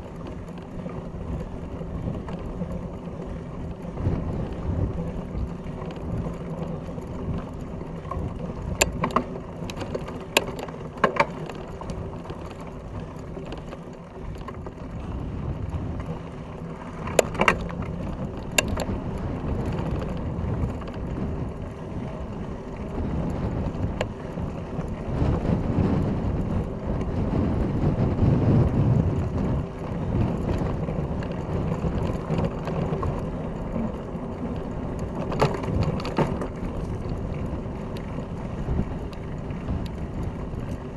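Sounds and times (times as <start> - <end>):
bike clicks and rattles on bumps: 0.0 - 40.9
knobby tyre rumbling over dirt: 0.0 - 40.9.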